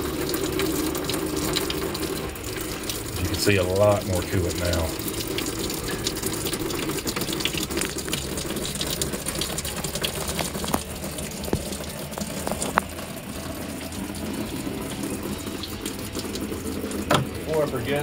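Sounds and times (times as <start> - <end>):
coolant running out in a stream: 0.0 - 18.0.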